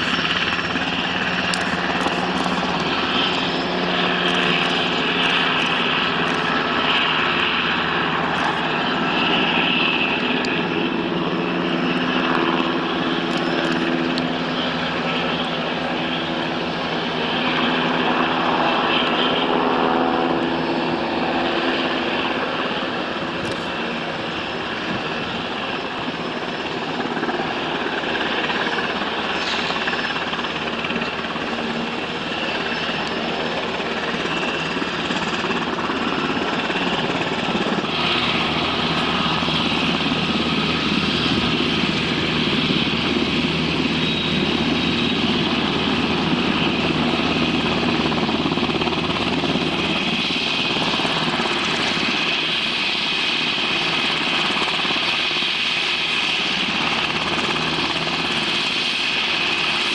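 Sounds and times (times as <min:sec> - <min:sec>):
helicopter rotors and engines: 0:00.0 - 0:59.9.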